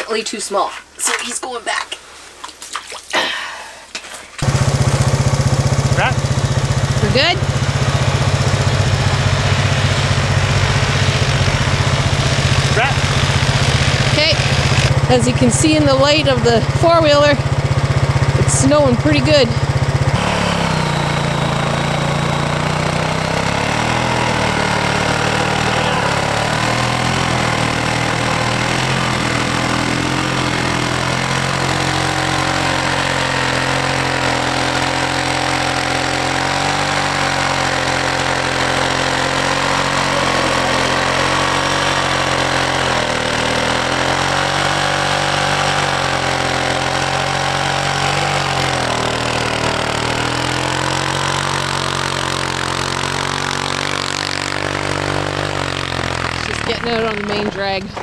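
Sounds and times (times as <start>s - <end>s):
atv engine running: 4.4s - 58.0s.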